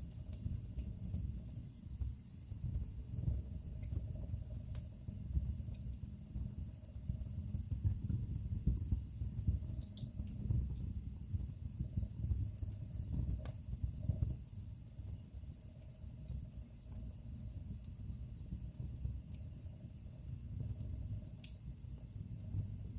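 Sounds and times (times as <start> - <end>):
fire rumbling in fireplace: 0.0 - 22.9
logs crackling and popping: 0.0 - 22.9.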